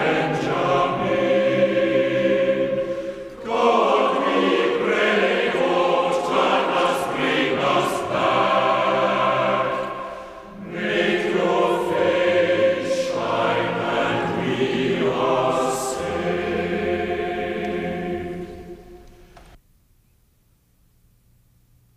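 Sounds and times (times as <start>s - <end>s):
choir singing: 0.0s - 19.4s.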